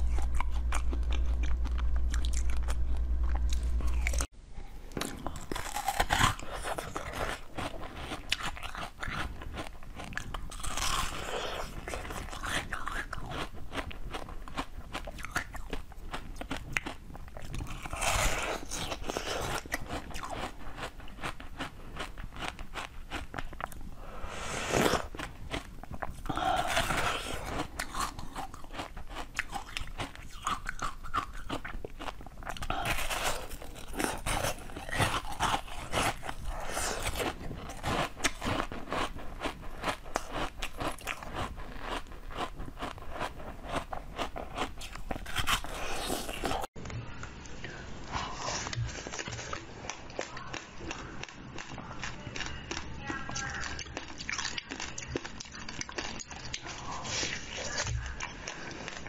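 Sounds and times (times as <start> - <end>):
crunching and chewing ice: 0.0 - 4.3, 5.0 - 46.7, 48.4 - 59.0.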